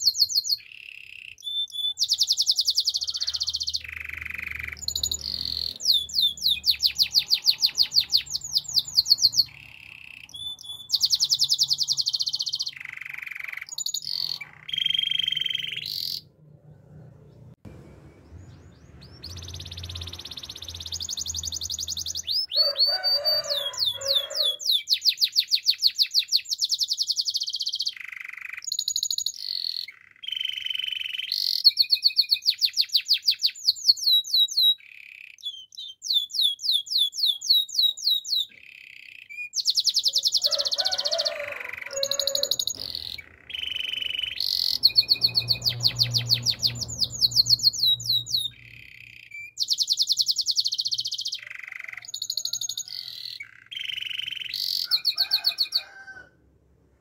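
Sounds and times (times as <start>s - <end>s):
canary singing trills: 0.0s - 17.5s, 18.2s - 56.2s.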